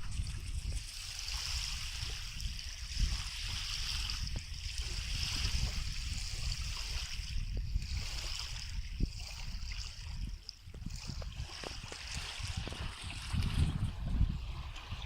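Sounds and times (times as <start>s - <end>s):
low gusty rumble: 0.0s - 15.0s
small waves washing ashore: 0.0s - 15.0s.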